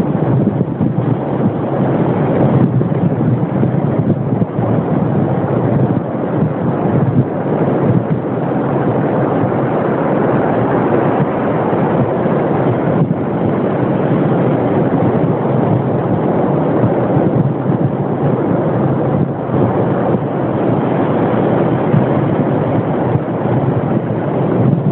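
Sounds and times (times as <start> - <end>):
surf on a beach: 0.0 - 24.9
wind: 0.0 - 24.9.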